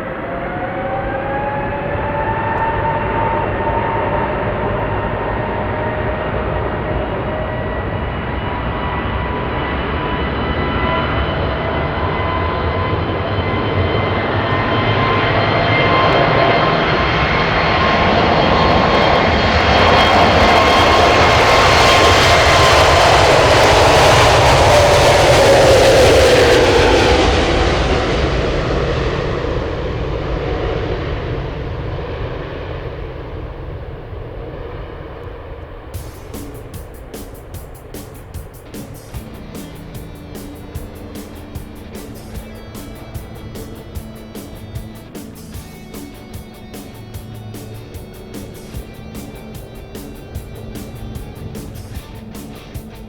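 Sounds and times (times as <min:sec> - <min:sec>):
jet engines rumbling and whining: 0:00.0 - 0:53.0.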